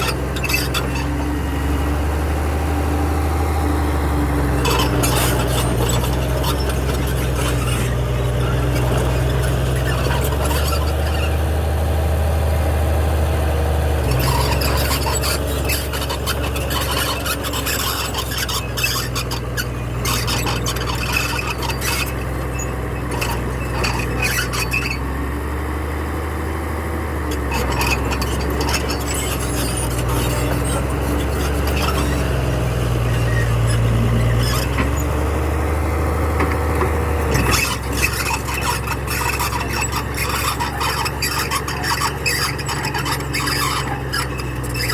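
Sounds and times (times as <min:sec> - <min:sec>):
metallic squealing: 0:00.0 - 0:01.8, 0:03.7 - 0:11.4, 0:14.0 - 0:25.0, 0:27.3 - 0:35.5, 0:37.3 - 0:44.9
bulldozer diesel engine: 0:00.0 - 0:44.9.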